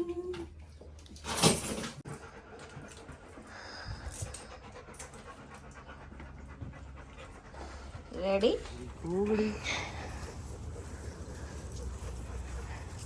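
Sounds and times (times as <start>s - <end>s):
dog panting: 2.0s - 13.0s.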